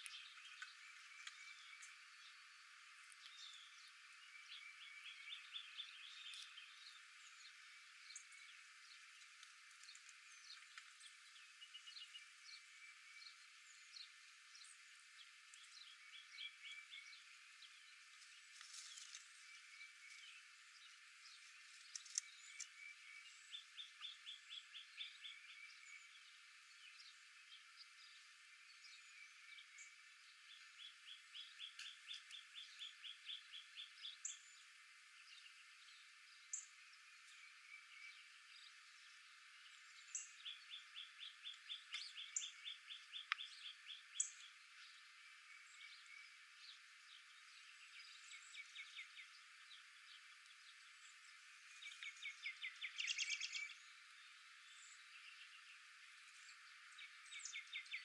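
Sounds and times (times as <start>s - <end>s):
soft outdoor hiss: 0.0s - 58.0s.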